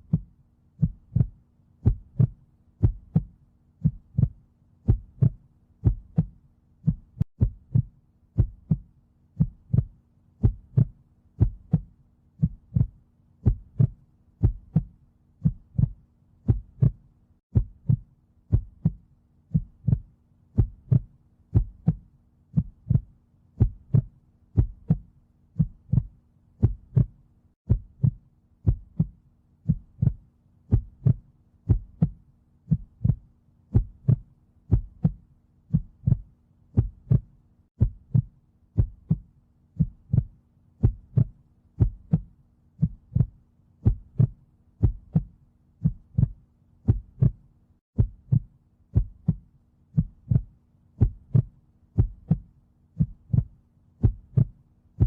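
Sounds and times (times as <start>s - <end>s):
heartbeat thuds: 0.0s - 54.6s.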